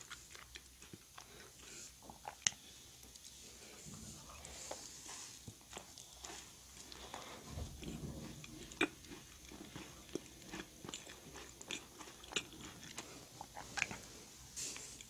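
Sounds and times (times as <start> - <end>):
chewing crisp cookie: 0.0 - 15.0.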